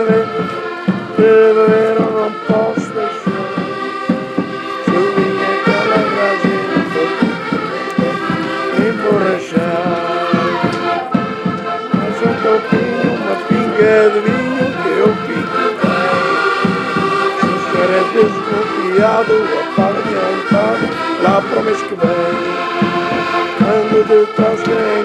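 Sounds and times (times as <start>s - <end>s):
concertinas playing folk tune: 0.0s - 25.0s.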